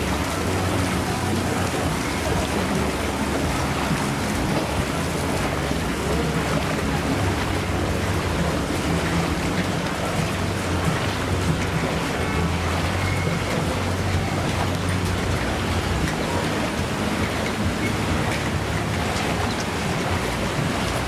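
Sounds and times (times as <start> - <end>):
low engine hum: 0.0 - 21.0
rain and rushing water: 0.0 - 21.0.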